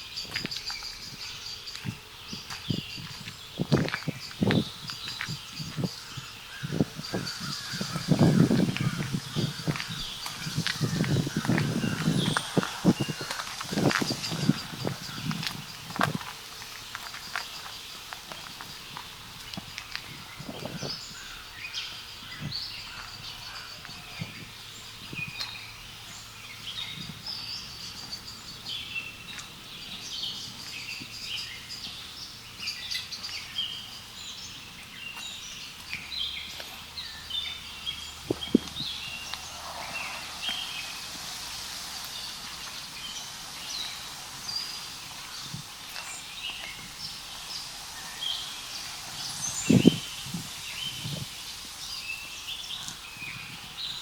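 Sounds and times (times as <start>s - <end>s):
footsteps on path: 0.0s - 54.0s
songbirds chirping: 0.0s - 54.0s.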